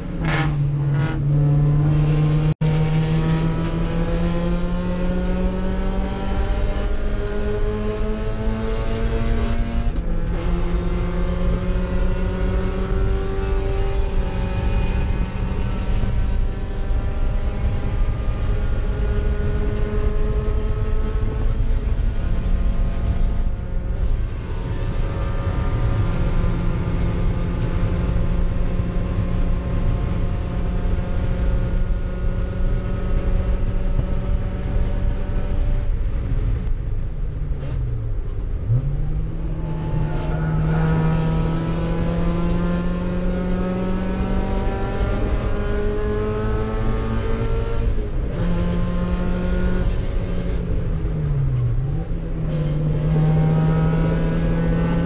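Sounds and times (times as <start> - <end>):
race car engine revving: 0.0 - 36.7, 37.6 - 55.0
wind and road noise: 0.0 - 55.0.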